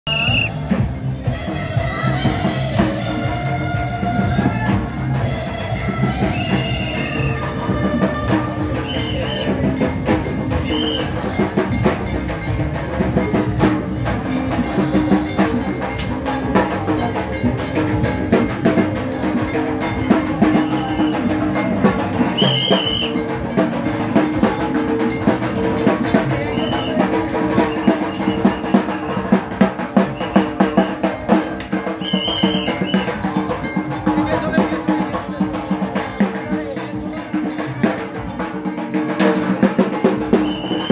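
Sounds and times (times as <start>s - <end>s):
music with drums and percussion: 0.0s - 40.9s.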